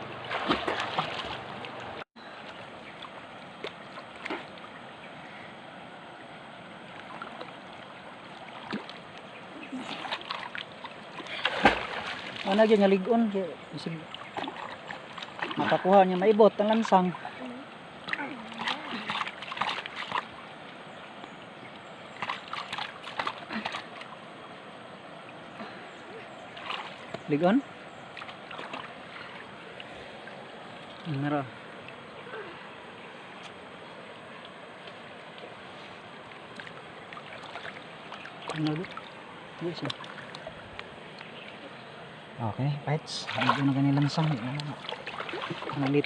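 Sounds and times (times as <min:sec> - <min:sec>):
river water rushing: 0:00.0 - 0:42.4, 0:43.0 - 0:46.0.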